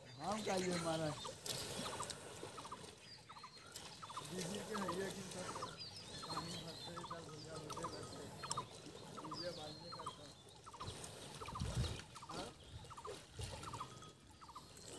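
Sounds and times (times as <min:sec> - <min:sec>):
ducks clucking: 0:00.0 - 0:14.8
bird chirps: 0:00.0 - 0:14.9.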